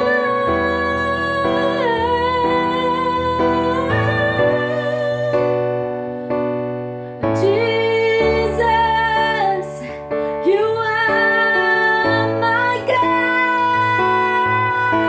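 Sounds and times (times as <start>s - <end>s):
woman singing: 0.0s - 5.9s, 7.2s - 15.0s
piano accompaniment: 0.0s - 15.0s.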